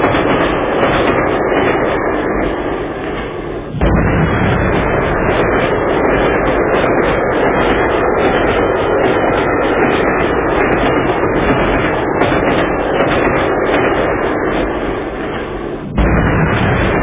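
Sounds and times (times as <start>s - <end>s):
train rumble with rhythmic clatter: 0.0s - 17.0s.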